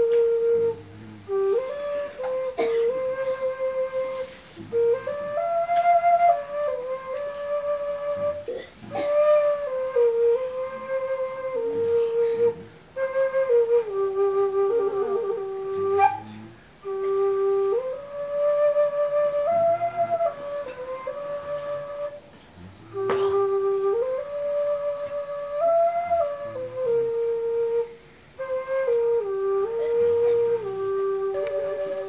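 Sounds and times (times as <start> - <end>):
flute playing slow melody: 0.0 - 32.0.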